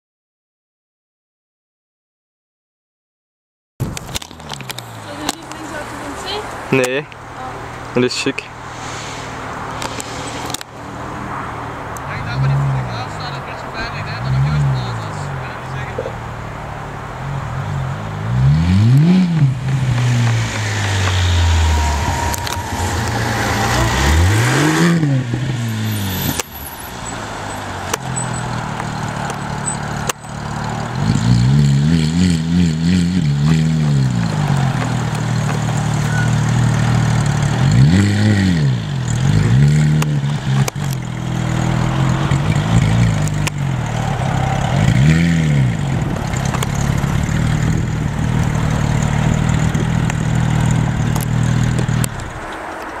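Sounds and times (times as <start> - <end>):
car engine revving: 3.8 - 53.0.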